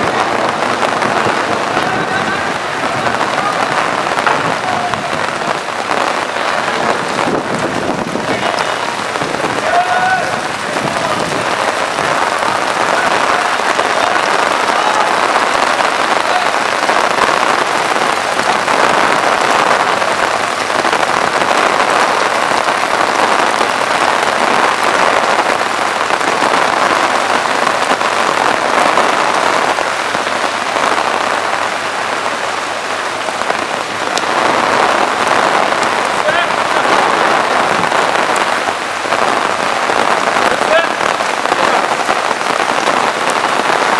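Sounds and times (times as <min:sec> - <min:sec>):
heavy rain pouring on street: 0:00.0 - 0:43.9.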